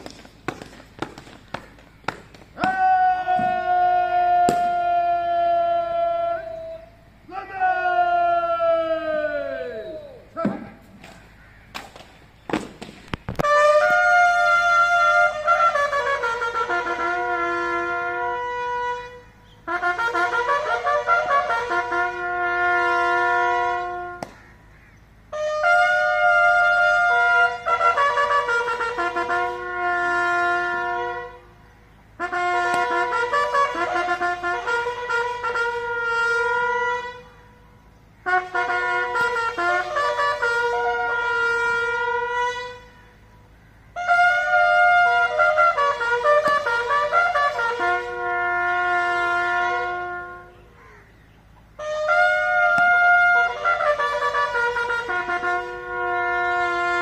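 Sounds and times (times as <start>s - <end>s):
bugle call of held notes: 0.0s - 11.9s, 13.4s - 57.0s.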